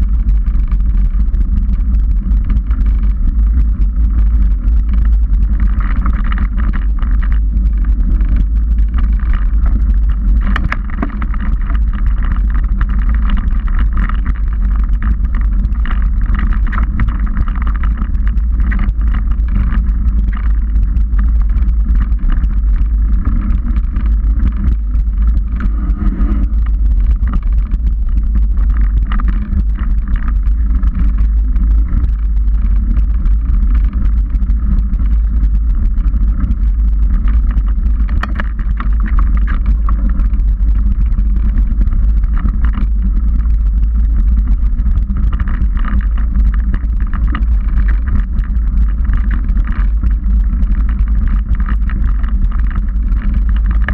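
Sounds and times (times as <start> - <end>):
bike clicks and rattles: 0.0 - 53.9
wind rumble on camera: 0.0 - 53.9.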